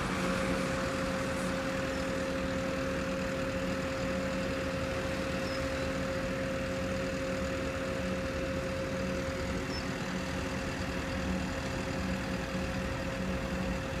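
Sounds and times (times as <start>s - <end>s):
truck engine idling with whine: 0.0s - 14.0s.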